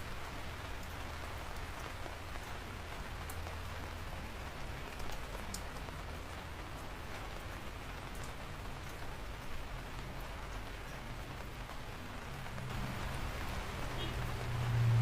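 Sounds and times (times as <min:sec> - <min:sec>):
rain drops pattering: 0:00.0 - 0:15.0.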